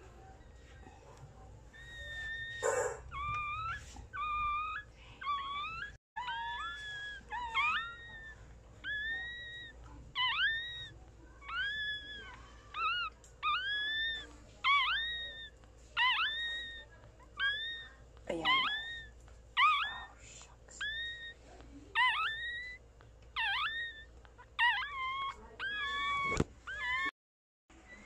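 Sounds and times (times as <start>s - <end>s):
puppy crying: 1.7s - 20.2s, 20.8s - 27.2s.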